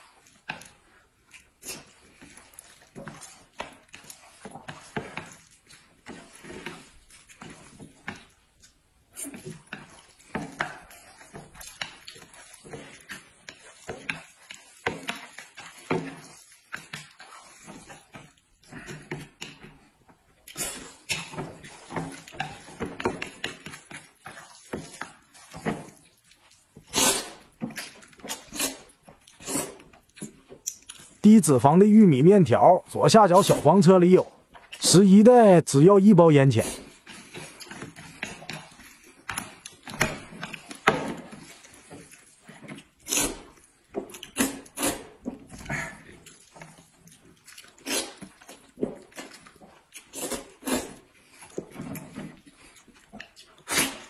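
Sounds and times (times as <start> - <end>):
eating and slurping: 0.0 - 35.0, 36.4 - 54.0
chopsticks stirring wet noodles: 0.0 - 54.0.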